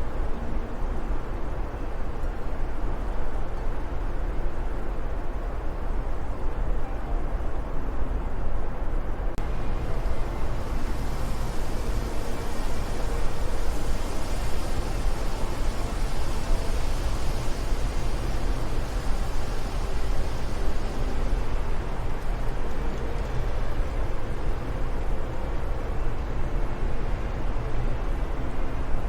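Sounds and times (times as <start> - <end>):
wind blowing: 0.0 - 29.0.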